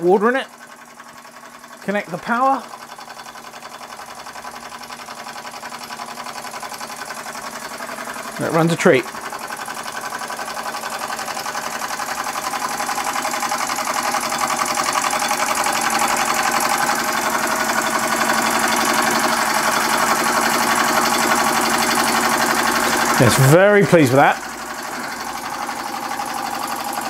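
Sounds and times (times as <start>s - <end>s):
steam engine chuffing: 0.0s - 27.0s.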